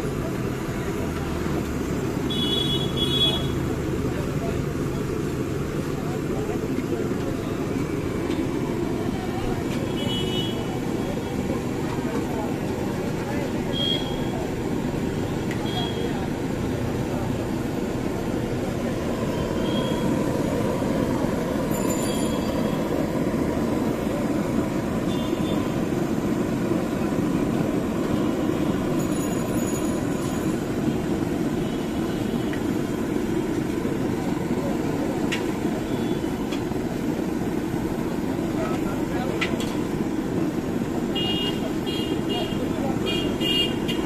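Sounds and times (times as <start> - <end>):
stove burner roar: 0.0 - 44.0
frying in oil: 0.1 - 44.0.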